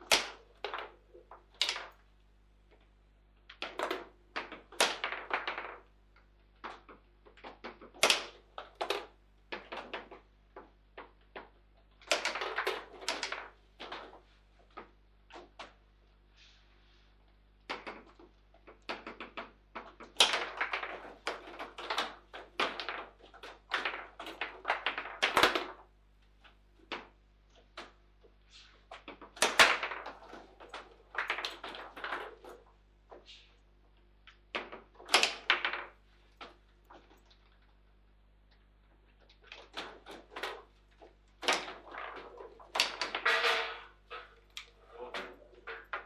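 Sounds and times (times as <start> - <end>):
table football ball knocks and clacks: 0.0 - 2.0, 3.5 - 5.9, 6.6 - 15.8, 17.6 - 28.0, 28.7 - 33.3, 34.3 - 37.3, 39.2 - 46.0.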